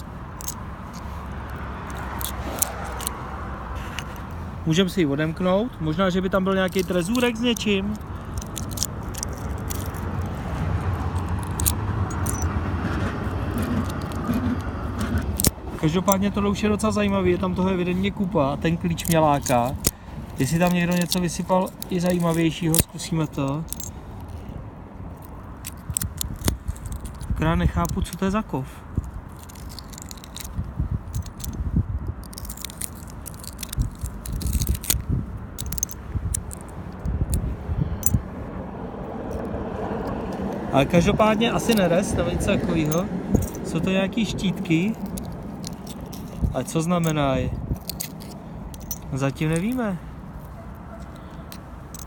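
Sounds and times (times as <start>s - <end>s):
steady low rumble: 0.0s - 52.0s
small metal objects clicking: 0.4s - 3.2s, 6.6s - 12.6s, 13.2s - 16.2s, 18.9s - 28.4s, 29.0s - 38.2s, 39.2s - 40.5s, 41.5s - 52.0s.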